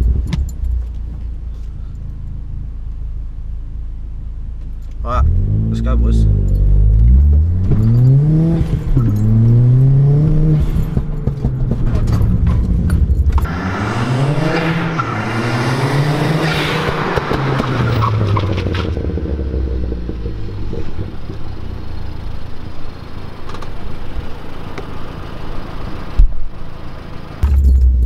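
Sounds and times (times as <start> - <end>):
car engine idling: 0.0 - 5.2, 5.8 - 28.0
car engine accelerating: 0.0 - 28.0.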